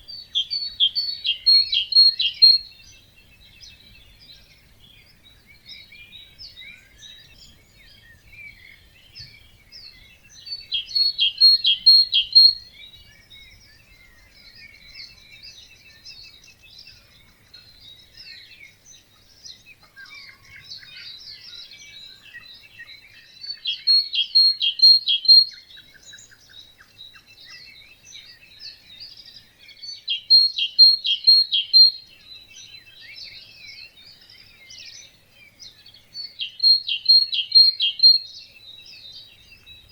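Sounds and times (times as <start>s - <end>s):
birds chorus chirping: 0.0s - 39.9s.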